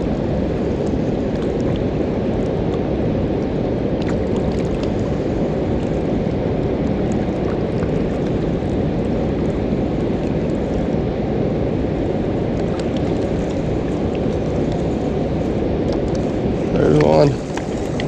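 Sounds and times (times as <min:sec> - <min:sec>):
water rushing over dam spillway: 0:00.0 - 0:18.0.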